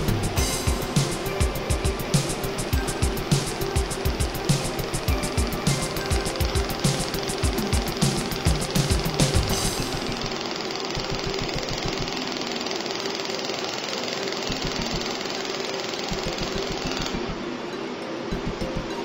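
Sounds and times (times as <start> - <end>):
laser welder ticking: 0.0 - 17.4
steady hiss: 0.0 - 19.0.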